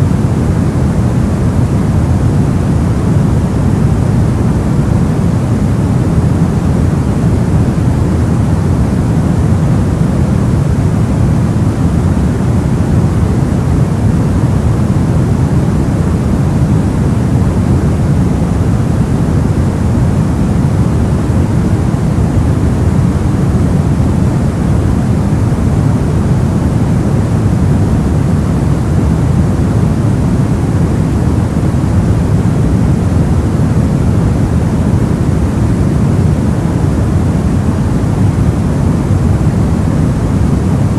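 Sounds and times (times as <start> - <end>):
low rumbling hiss: 0.0 - 40.9.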